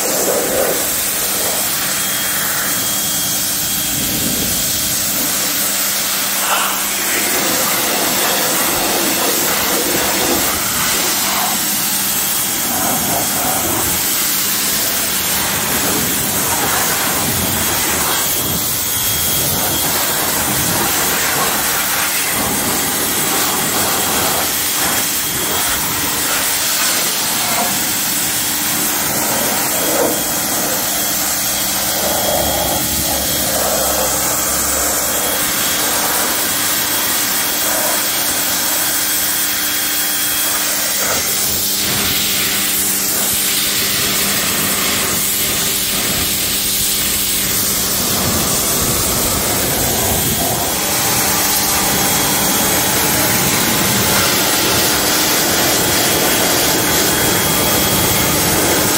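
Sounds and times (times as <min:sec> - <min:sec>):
pressure washer motor humming: 0:00.0 - 0:58.9
water jet hissing: 0:00.0 - 0:58.9.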